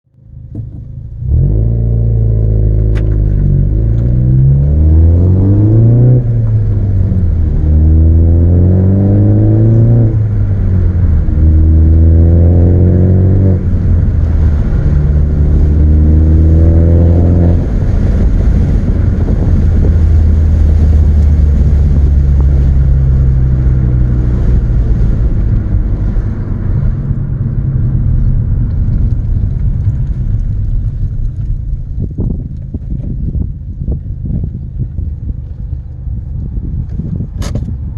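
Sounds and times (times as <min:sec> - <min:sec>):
car engine revving and idling: 0:00.2 - 0:37.9.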